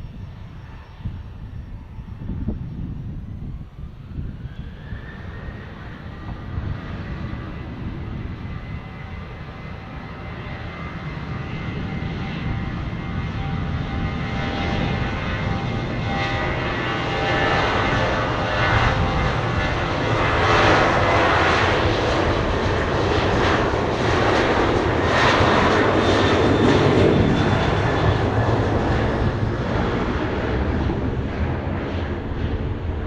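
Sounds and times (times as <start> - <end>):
airliner engines roaring: 0.0 - 33.0.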